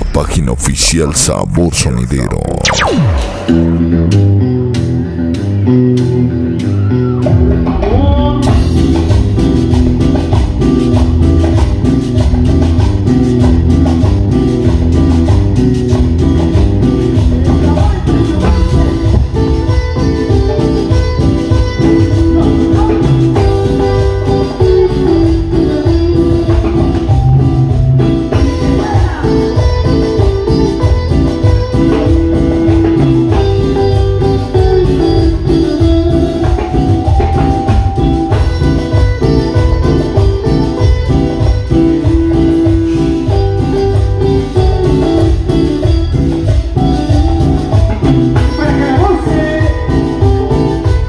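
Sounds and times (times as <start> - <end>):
congas: 0.0 - 51.0
latin dance band playing: 0.0 - 51.0.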